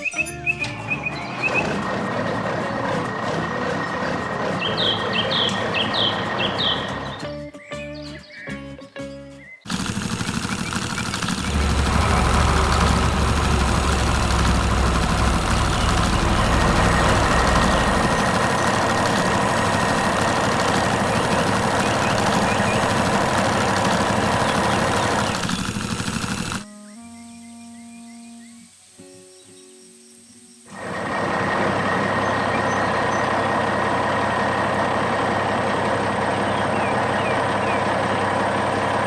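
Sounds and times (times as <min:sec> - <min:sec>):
heavy diesel machinery running: 0:01.0 - 0:07.2, 0:09.7 - 0:26.6, 0:30.7 - 0:39.0.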